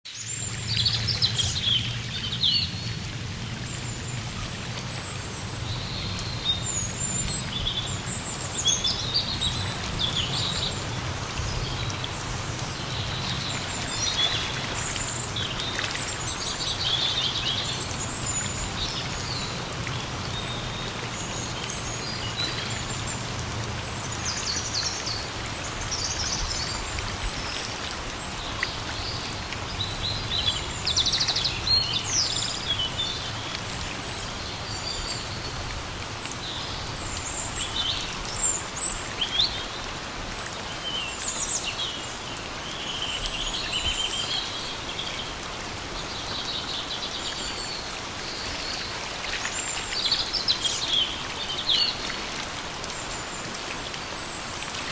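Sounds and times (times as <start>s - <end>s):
rain falling in forest: 0.0s - 54.9s.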